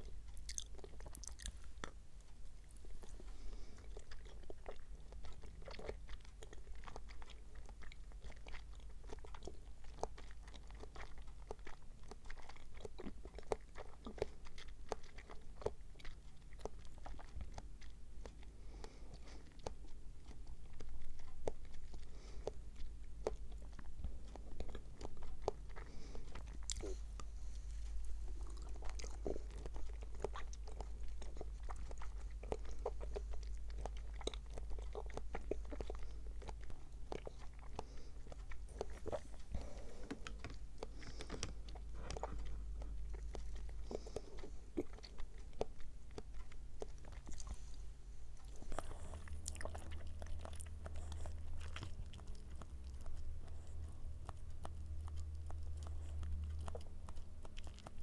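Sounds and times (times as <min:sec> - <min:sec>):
wet chewing mouth sounds: 0:00.0 - 0:58.0.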